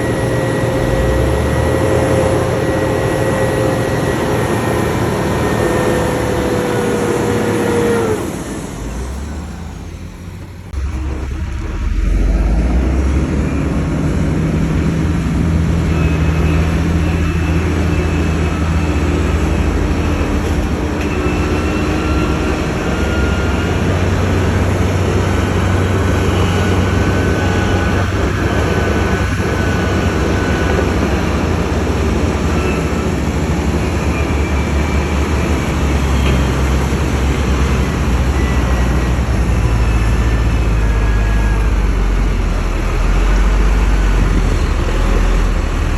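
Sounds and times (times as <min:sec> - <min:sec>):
faint high whines: 0:00.0 - 0:45.9
heavy diesel machinery rumbling: 0:00.0 - 0:45.9.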